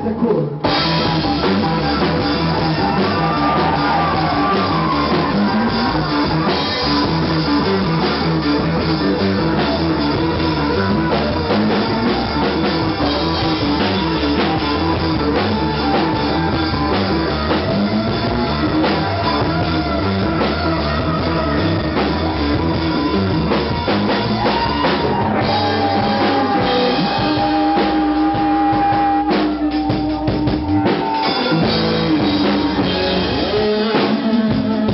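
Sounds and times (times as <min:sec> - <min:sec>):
electric guitar: 0:00.0 - 0:34.9
rock band playing live: 0:00.0 - 0:34.9
drum kit: 0:00.6 - 0:34.9.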